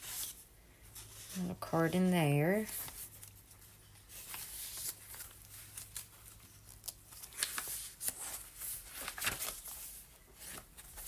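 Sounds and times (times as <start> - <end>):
paper pages rustling and flicking: 0.0 - 1.4, 2.6 - 11.0.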